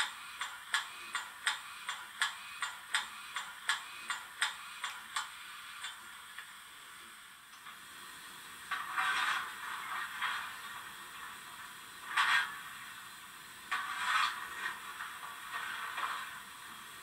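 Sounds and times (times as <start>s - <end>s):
steam hiss: 0.0s - 17.0s.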